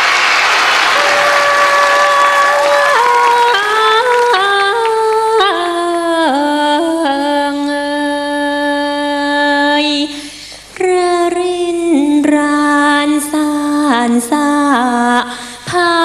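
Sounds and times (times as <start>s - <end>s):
woman singing folk melody: 2.5s - 10.2s, 10.8s - 16.0s.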